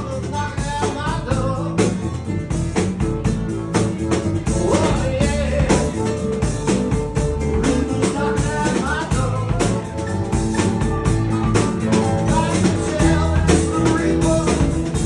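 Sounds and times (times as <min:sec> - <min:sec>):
blues band playing: 0:00.0 - 0:15.0
guitar lines: 0:00.0 - 0:15.0.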